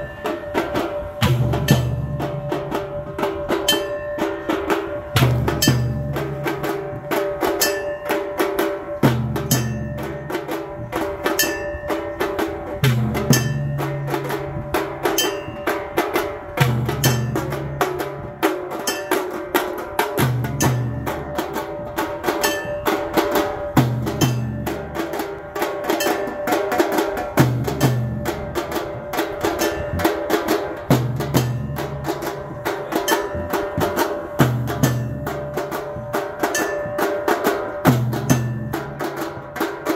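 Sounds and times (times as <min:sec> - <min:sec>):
deep drum pattern: 0:00.0 - 0:39.9
drums and percussion: 0:00.0 - 0:39.9.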